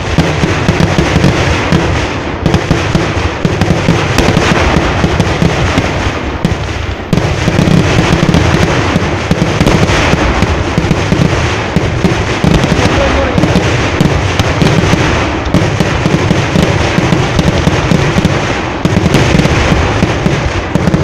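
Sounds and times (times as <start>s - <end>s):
firecracker bangs and crackling: 0.0s - 21.0s.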